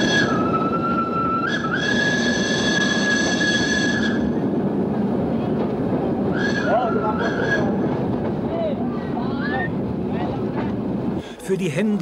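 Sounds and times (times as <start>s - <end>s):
tram wheels squealing: 0.0s - 4.6s, 5.4s - 10.7s
tram rolling rumble: 0.0s - 12.0s.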